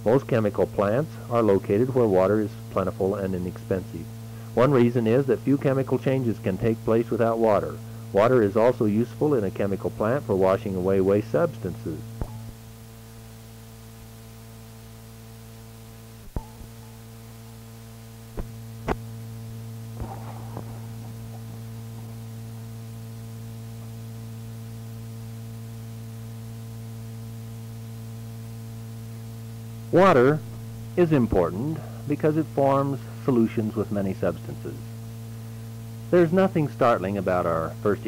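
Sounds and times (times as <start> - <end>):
mains hum: 0.0 - 38.0.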